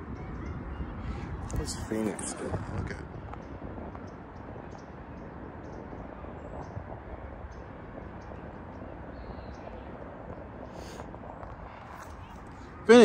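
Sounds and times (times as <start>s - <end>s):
open-air background noise: 0.0s - 13.0s.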